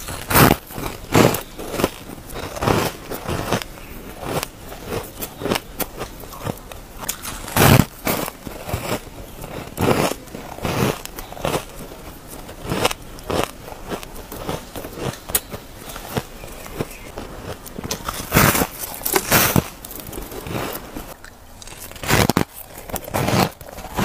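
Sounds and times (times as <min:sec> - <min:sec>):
ice crunching as chewed: 0:00.0 - 0:24.0.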